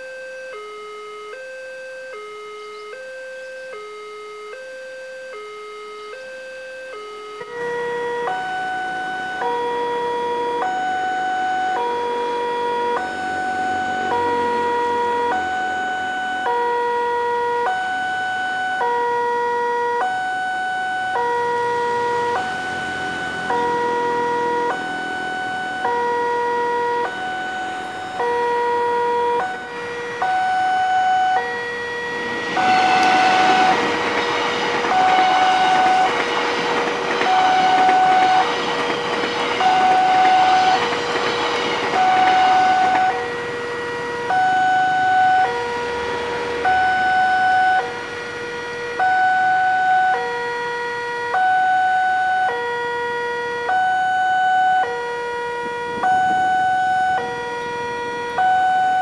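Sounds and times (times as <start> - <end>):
two-tone crossing alarm chime: 0.0 - 52.7, 53.5 - 55.1, 55.9 - 59.0
passenger train rushing past: 7.5 - 59.0.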